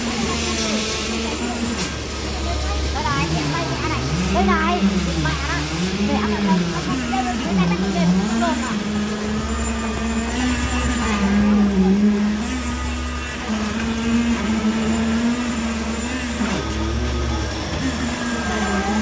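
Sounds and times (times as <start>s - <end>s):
machinery droning: 0.0s - 19.0s.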